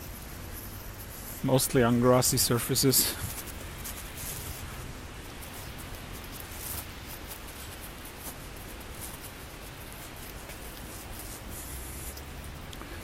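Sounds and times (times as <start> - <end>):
short scratchy rustles: 0.0 - 12.6
even hiss of snowfall: 0.0 - 13.0
low city rumble: 0.0 - 13.0.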